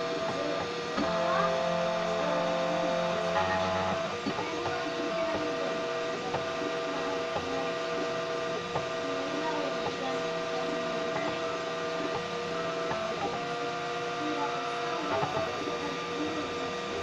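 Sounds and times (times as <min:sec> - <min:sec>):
constant hum: 0:00.0 - 0:17.0
stepper motors whining: 0:00.0 - 0:17.0.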